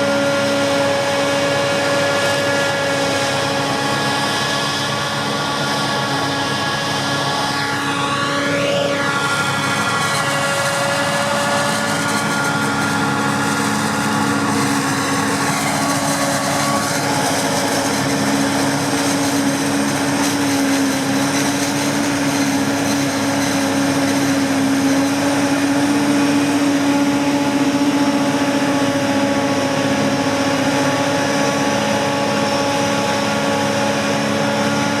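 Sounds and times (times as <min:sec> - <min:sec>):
farm machinery engine droning: 0:00.0 - 0:35.0
steady whine: 0:00.0 - 0:35.0.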